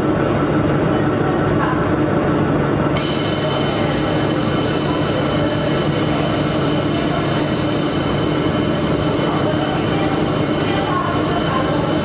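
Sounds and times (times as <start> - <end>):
machine low hum: 0.0 - 12.0.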